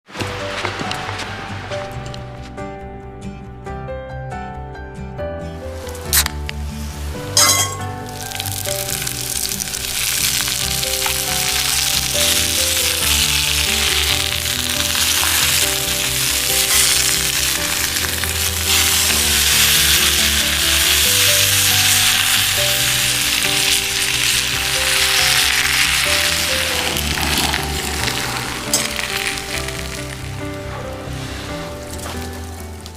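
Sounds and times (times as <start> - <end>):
background music: 0.1 - 32.9
meat sizzling over a fire: 5.8 - 32.9.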